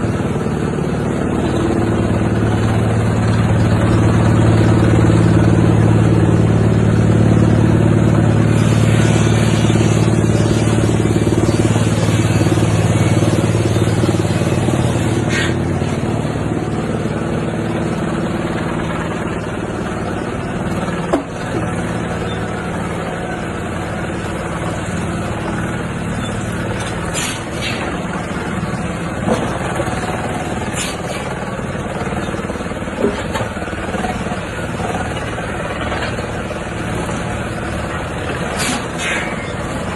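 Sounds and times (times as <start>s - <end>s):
wood chipper humming: 0.0s - 39.9s.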